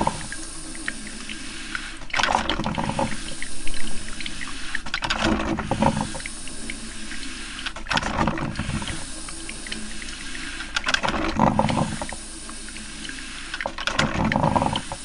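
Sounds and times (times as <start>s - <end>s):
coffee maker brewing: 0.0s - 15.0s.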